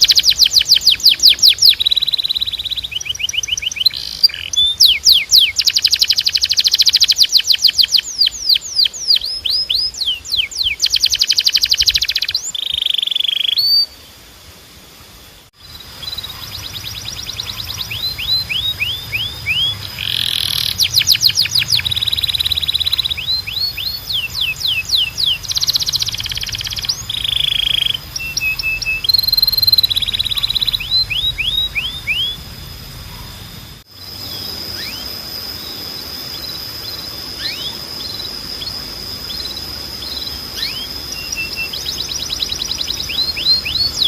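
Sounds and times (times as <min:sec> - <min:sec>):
canary singing trills: 0:00.0 - 0:14.2, 0:15.1 - 0:44.0
steady high whine: 0:00.0 - 0:44.0.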